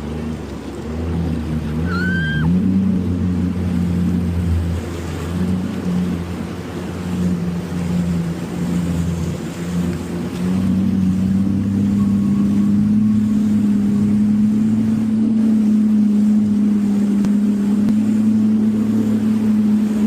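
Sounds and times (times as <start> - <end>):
jet ski engine droning: 0.0 - 20.0.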